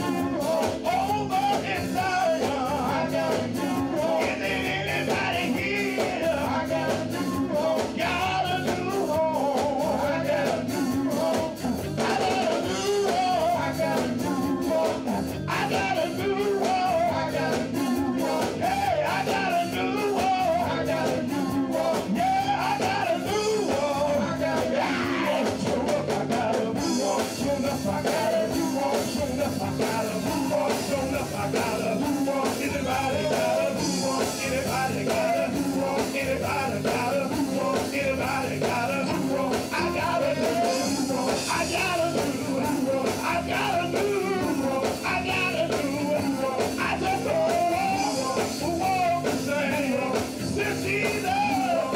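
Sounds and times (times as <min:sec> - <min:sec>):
band with guitar drums and keyboard: 0:00.0 - 0:51.9
vocal group singing in harmony: 0:00.0 - 0:51.9.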